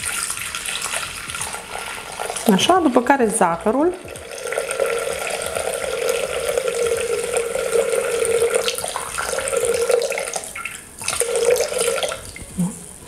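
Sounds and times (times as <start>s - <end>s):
wine pouring into steel bowl: 0.0s - 12.4s.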